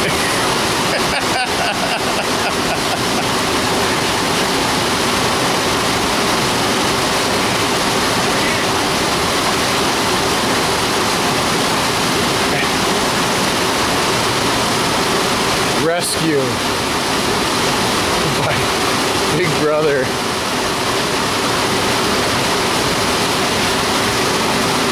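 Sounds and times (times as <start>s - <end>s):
rapids and waterfall roaring: 0.0s - 24.9s.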